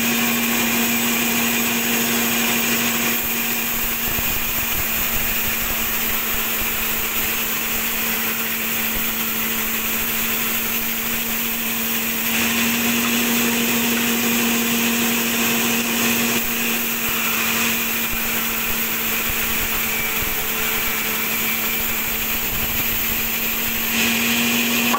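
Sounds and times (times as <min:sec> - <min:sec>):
band saw cutting log: 0:00.0 - 0:24.9.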